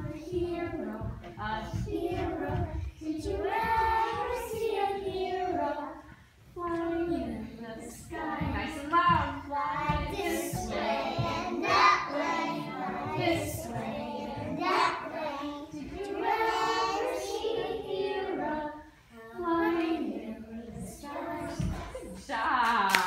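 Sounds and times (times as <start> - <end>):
young children singing: 0.0 - 22.2
low thumps: 0.0 - 22.6.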